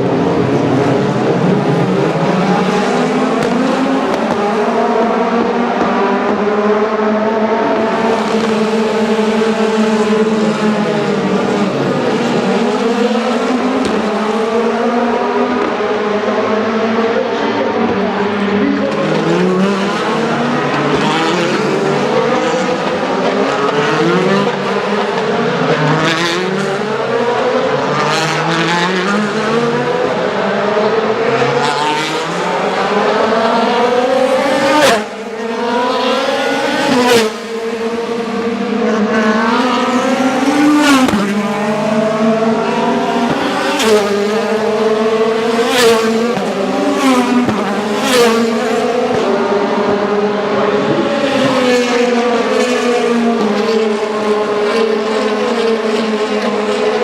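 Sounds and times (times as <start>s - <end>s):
racing car engines accelerating: 0.0s - 57.0s.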